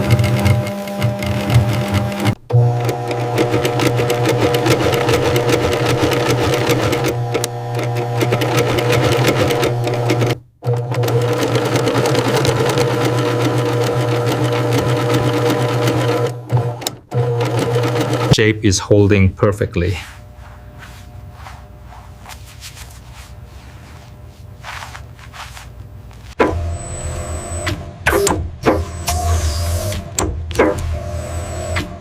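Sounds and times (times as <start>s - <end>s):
sewing machine motor hum: 0.0s - 18.4s, 23.2s - 32.0s.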